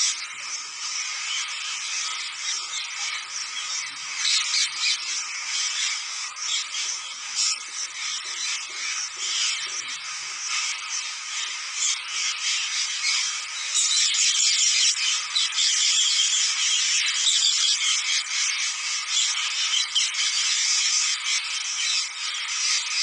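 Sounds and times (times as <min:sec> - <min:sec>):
parakeets screeching and chattering: 0:00.0 - 0:23.0.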